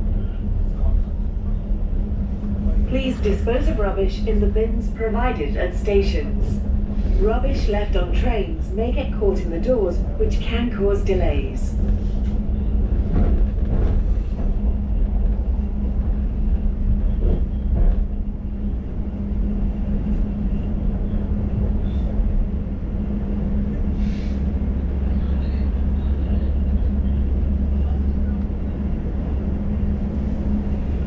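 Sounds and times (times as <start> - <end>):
train rumbling from inside: 0.0 - 31.0.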